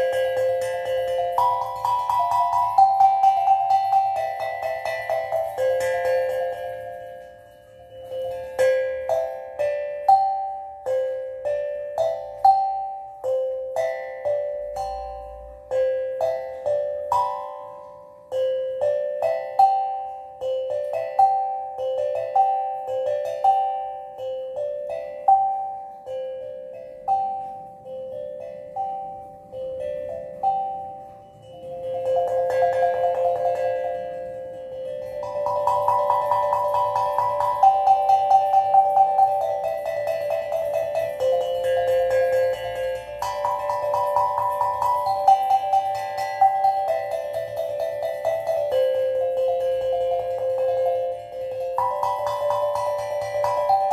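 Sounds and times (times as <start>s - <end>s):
steel tongue drum melody: 0.0s - 53.9s.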